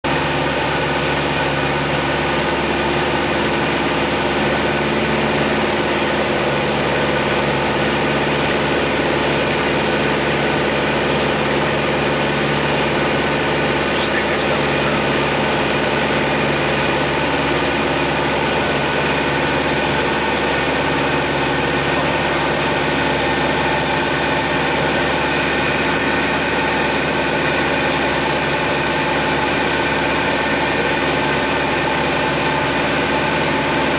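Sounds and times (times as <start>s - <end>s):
propeller aircraft engine drone: 0.0s - 33.9s.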